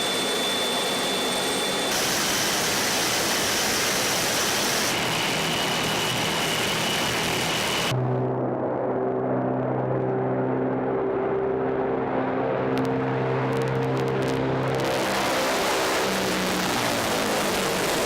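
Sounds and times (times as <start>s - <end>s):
aircraft engine rushing: 0.0s - 18.0s
low even drone: 0.0s - 18.0s.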